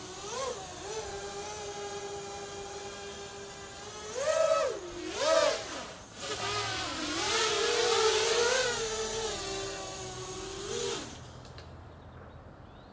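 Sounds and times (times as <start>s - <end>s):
quadcopter motors whining: 0.0s - 11.6s.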